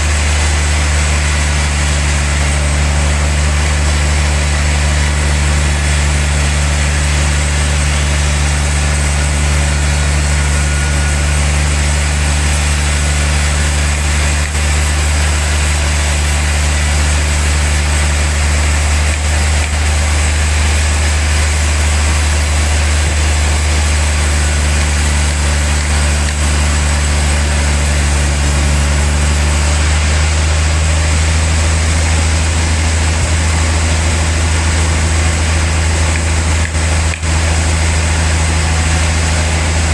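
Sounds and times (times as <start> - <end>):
machinery hiss: 0.0 - 39.9
sawmill machine hum: 0.0 - 39.9.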